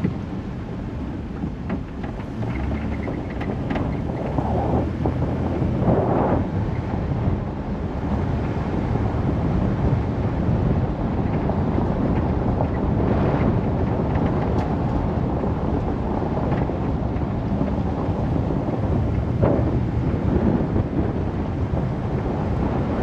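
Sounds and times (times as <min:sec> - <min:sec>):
vehicle driving on gravel: 0:00.0 - 0:23.0
wind noise on microphone: 0:00.0 - 0:23.0.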